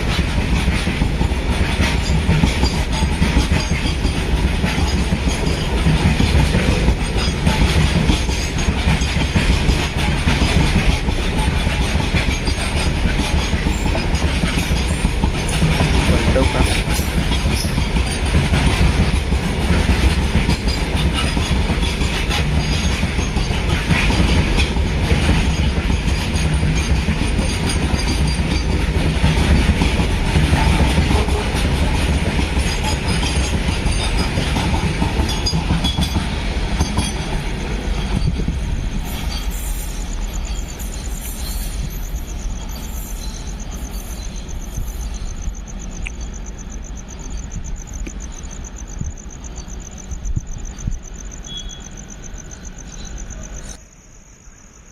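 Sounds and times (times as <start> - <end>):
rail joint clicks: 0.0 - 53.8
train wheels rumbling on rails: 0.0 - 54.9.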